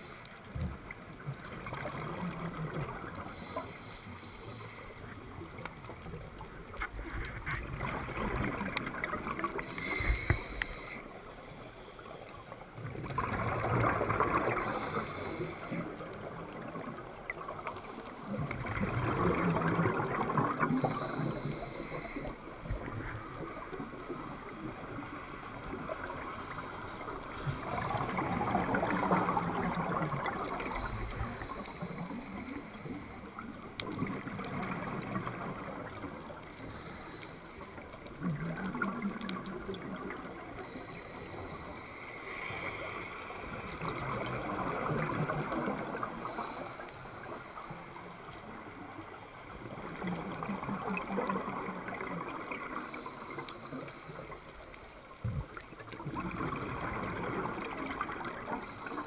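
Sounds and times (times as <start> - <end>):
steady watery hiss: 0.0 - 59.0
exhaled air bubbling: 0.7 - 59.0.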